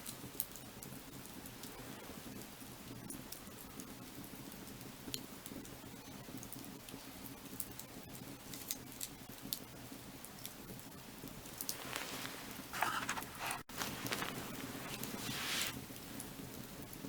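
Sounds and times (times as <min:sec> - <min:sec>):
firewood crackling and popping: 0:00.0 - 0:17.0
low fire rumble: 0:00.0 - 0:17.0.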